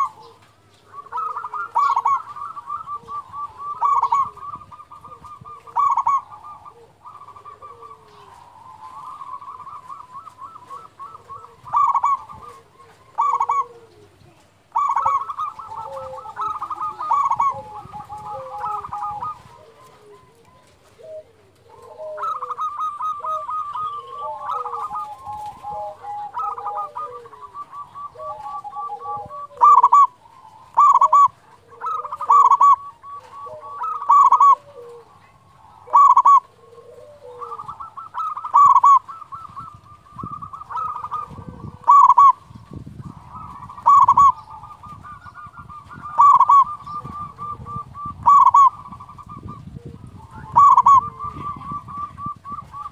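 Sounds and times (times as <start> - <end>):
dove cooing with trilling notes: 0.0 - 52.9.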